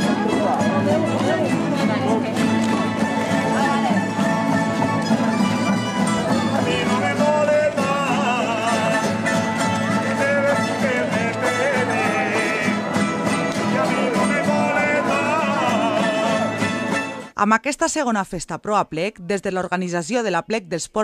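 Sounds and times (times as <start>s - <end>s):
folk string band playing: 0.0s - 17.4s.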